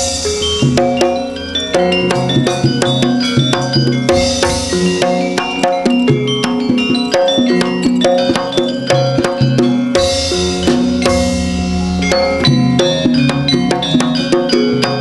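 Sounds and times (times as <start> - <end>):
drums and tuned gongs playing: 0.0 - 15.0.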